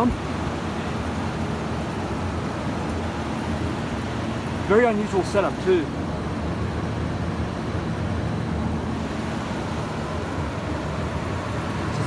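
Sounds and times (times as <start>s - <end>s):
evaporator fans humming: 0.0s - 12.0s.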